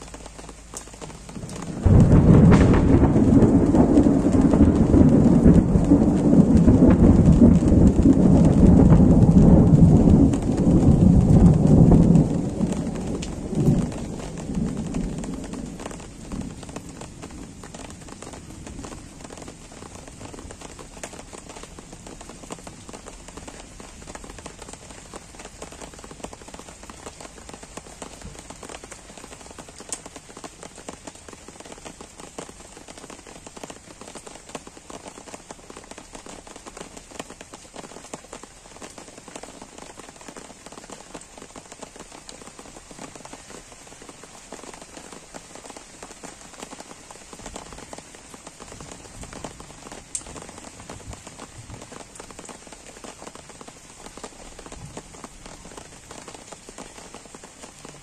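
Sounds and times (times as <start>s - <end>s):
gentle rain on leaves: 0.0s - 58.0s
raindrops ticking close by: 0.0s - 58.0s.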